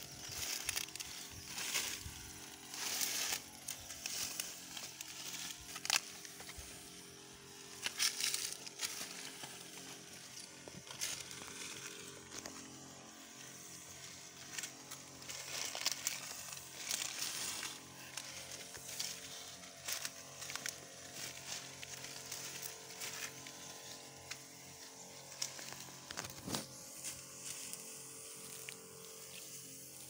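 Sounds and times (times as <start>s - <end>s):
dry stalks rustling underfoot: 0.0s - 30.0s
faint steady drone: 0.0s - 30.0s
sprayer nozzle hissing: 0.0s - 30.0s.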